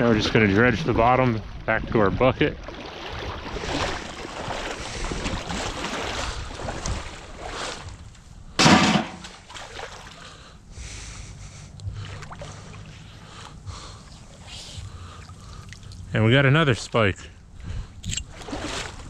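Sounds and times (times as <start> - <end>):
water sloshing and splashing: 0.0 - 10.6, 11.4 - 19.0.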